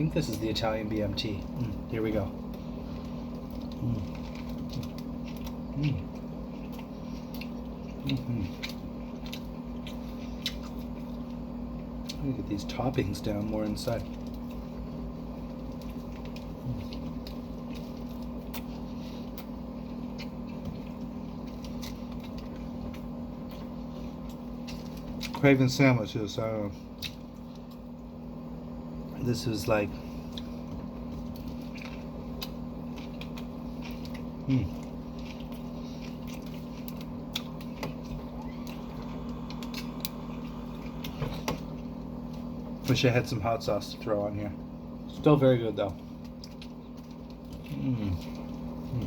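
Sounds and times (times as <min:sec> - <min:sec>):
low room hum: 0:00.0 - 0:49.0
person chewing food: 0:00.2 - 0:25.4, 0:26.7 - 0:43.3, 0:44.0 - 0:49.0.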